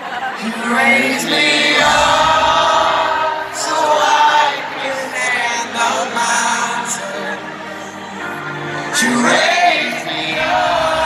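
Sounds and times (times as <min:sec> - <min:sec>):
crowd singing a pop ballad: 0:00.0 - 0:11.0.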